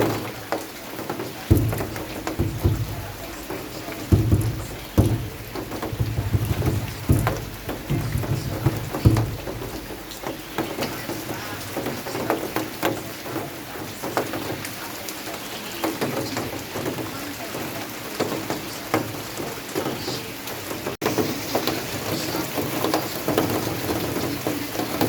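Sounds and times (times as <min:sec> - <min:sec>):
raindrops ticking on surface: 0:00.0 - 0:25.0.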